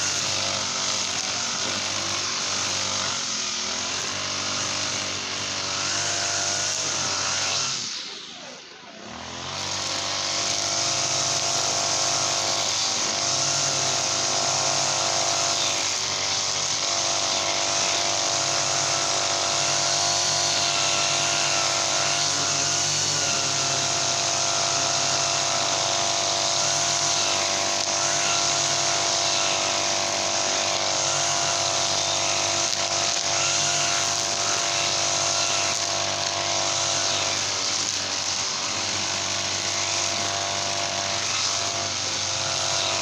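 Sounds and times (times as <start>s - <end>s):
brush cutter engine revving: 0.0s - 43.0s.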